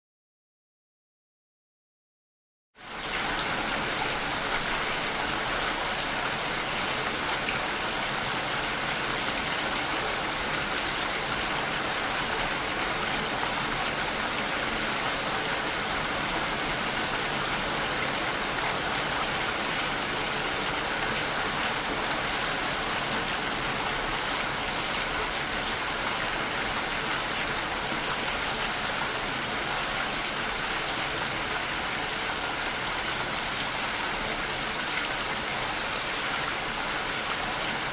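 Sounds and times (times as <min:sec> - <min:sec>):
steady rain hiss: 0:02.8 - 0:37.9.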